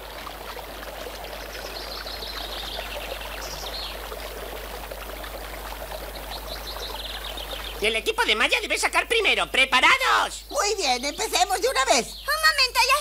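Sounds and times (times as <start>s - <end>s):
brook babbling: 0.0s - 13.0s.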